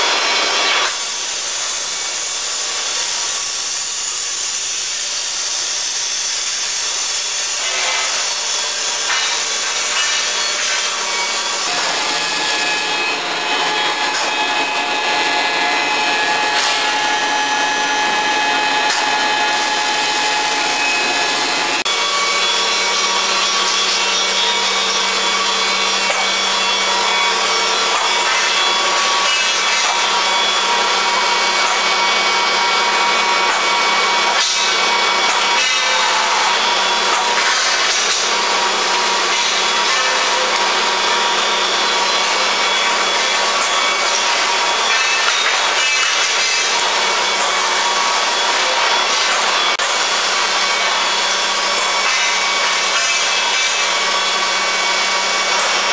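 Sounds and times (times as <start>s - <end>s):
machinery hissing and whining: 0.0s - 55.9s.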